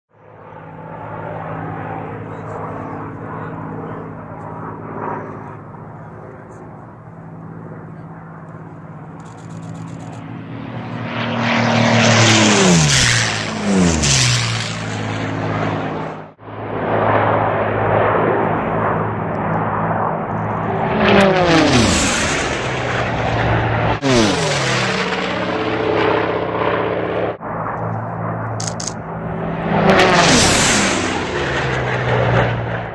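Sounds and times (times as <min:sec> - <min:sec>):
race planes flying past: 0:00.2 - 0:32.9.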